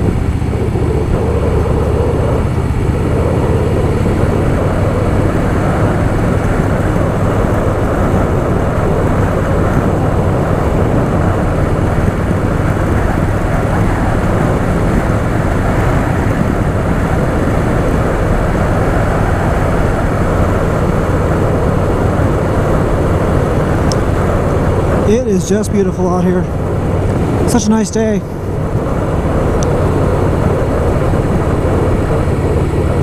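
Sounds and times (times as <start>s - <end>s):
motorcycle engine running: 0.0s - 33.0s
rush of wind noise: 0.0s - 33.0s.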